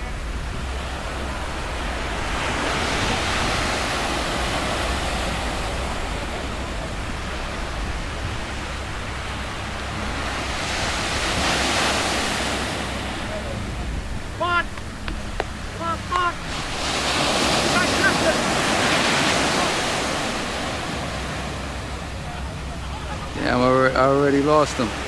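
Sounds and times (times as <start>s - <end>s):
ocean surf washing onto beach: 0.0s - 25.0s
wind rumbling on microphone: 0.0s - 25.0s.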